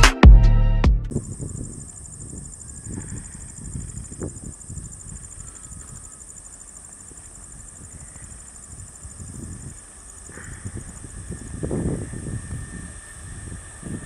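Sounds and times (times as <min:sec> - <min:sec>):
insects chirring: 0:01.1 - 0:14.0.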